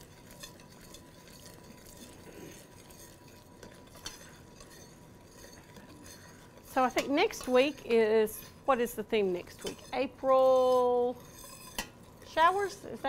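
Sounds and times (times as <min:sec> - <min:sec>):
spoon stirring boiling mixture: 0:00.0 - 0:13.0.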